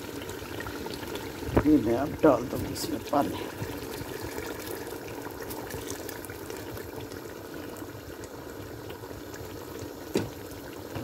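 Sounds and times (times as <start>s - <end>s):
water pouring into pot: 0.0s - 11.0s.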